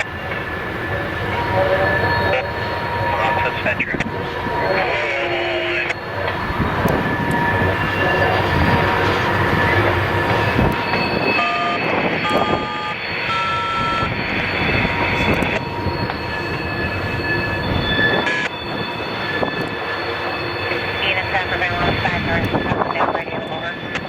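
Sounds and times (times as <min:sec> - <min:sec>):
train cars rumbling on rails: 0:00.0 - 0:24.0
steel wheel squeal: 0:04.5 - 0:24.0.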